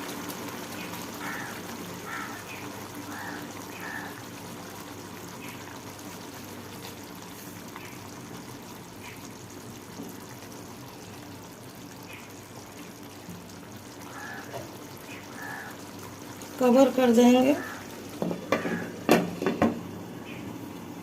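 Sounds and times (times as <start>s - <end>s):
sauce bubbling and hissing: 0.0s - 21.0s.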